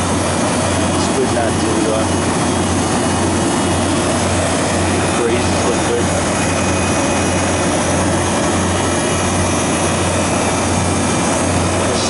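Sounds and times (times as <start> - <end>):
compressor hum: 0.0 - 12.0
condenser fan rushing: 0.0 - 12.0.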